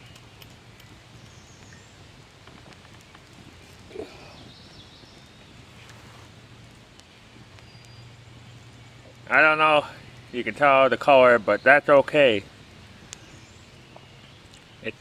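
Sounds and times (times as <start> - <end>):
distant bird chirps: 0.0 - 6.3, 6.9 - 15.0.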